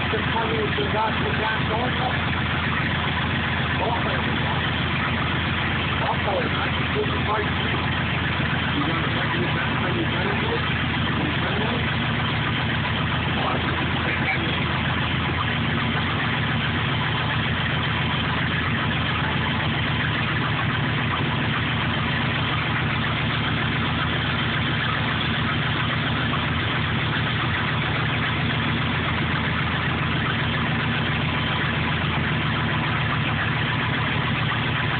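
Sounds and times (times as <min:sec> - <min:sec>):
truck engine idling: 0:00.0 - 0:34.9.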